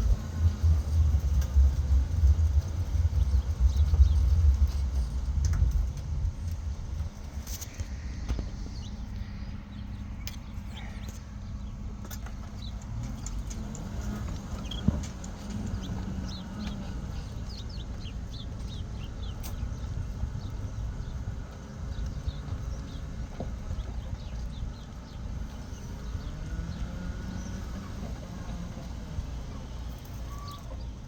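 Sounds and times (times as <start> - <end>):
low rumble of walking outdoors: 0.0 - 31.0
small birds chirping: 0.0 - 31.0.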